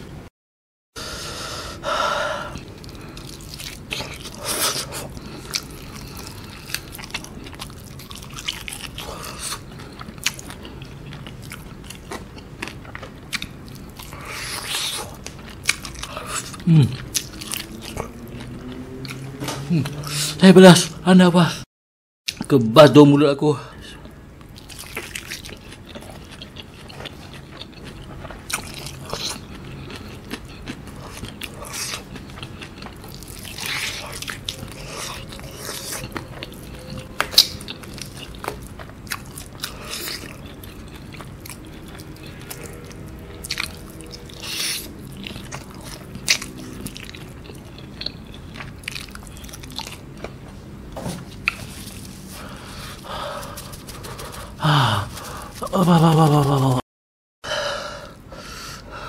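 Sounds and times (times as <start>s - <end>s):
biting and chewing: 2.5s - 20.1s, 24.4s - 50.4s, 51.2s - 56.2s.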